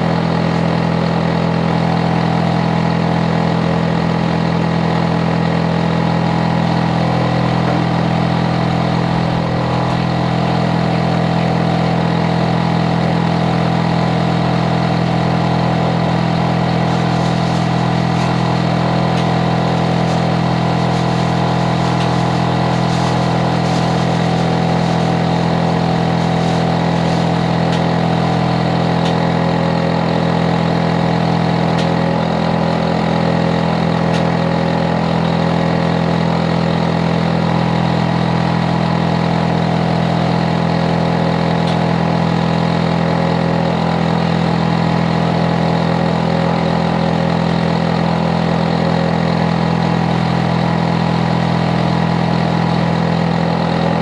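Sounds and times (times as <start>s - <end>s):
air conditioner unit humming: 0.0s - 54.0s.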